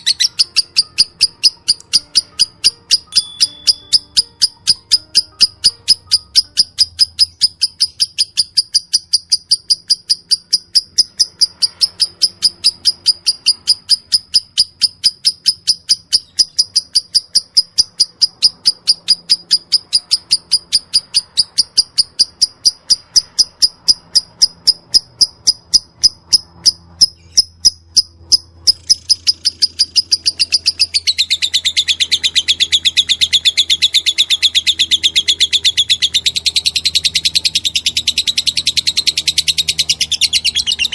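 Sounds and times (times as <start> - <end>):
lovebird chirping: 0.0 - 40.9.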